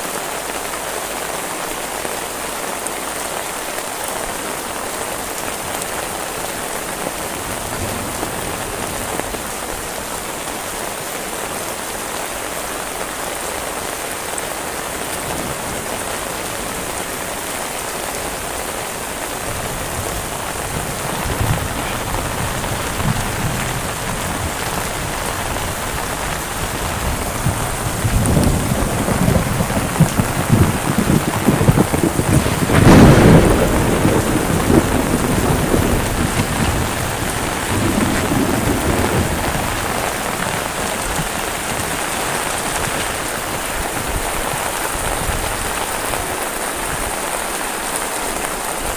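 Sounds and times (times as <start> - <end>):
heavy rain drumming: 0.0 - 48.9
thunder rumbling: 4.8 - 46.2.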